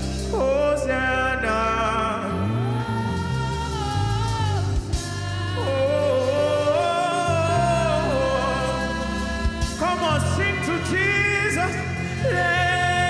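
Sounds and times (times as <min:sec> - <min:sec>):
keyboard accompaniment: 0:00.0 - 0:13.0
person singing long sliding notes: 0:00.0 - 0:13.0.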